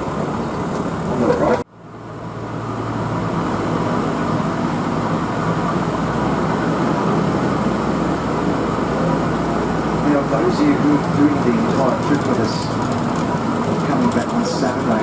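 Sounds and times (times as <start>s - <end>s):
diesel rail motor rumbling: 0.0s - 15.0s.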